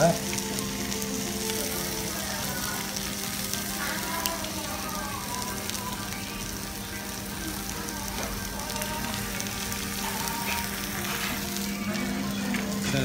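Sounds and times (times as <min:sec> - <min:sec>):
food sizzling on hot plate: 0:00.0 - 0:13.0.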